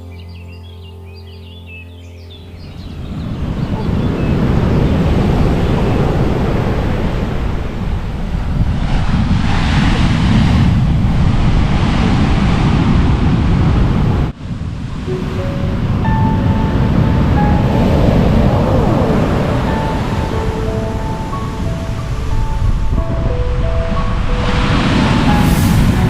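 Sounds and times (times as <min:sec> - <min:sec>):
wind buffeting microphone: 0:02.4 - 0:26.0
heavy surf breaking: 0:02.8 - 0:26.0.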